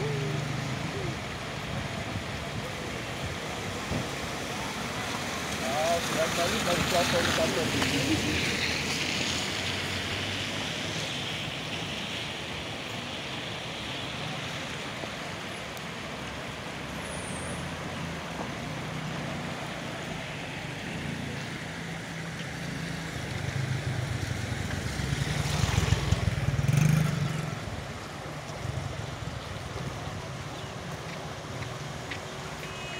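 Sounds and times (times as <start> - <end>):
motor traffic rumble: 0.0 - 32.9.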